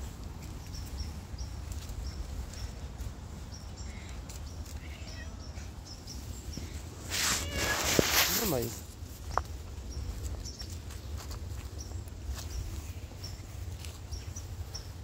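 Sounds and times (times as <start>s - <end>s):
footsteps on dry leaves: 0.0s - 15.0s.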